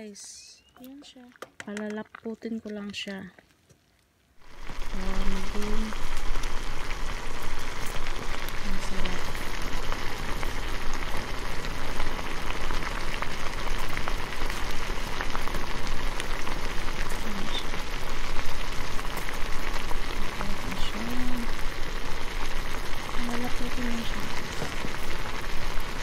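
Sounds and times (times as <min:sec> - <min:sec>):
thick sauce bubbling in a pot: 0:00.6 - 0:26.0.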